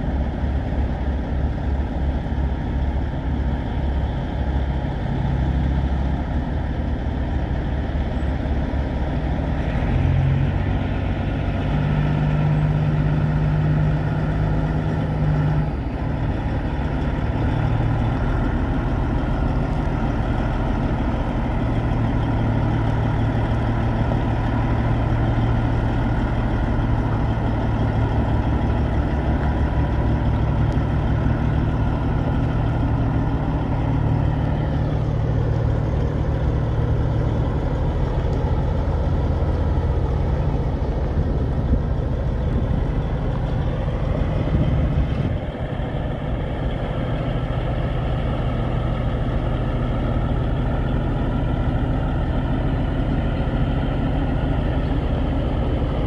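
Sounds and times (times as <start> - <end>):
diesel truck idling: 0.0 - 56.0.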